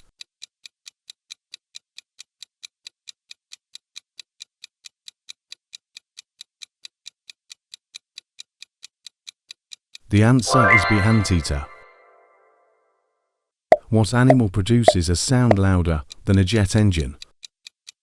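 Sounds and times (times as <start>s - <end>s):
high-pitched clock ticks: 0.0s - 12.3s, 13.7s - 18.0s.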